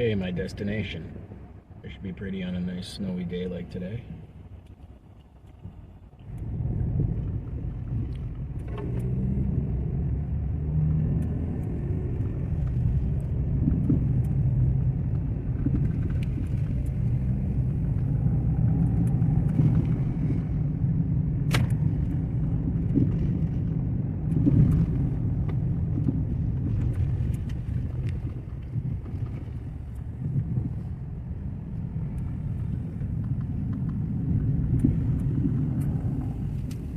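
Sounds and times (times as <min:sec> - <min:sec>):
car engine and tyres rumbling: 0:00.0 - 0:36.9.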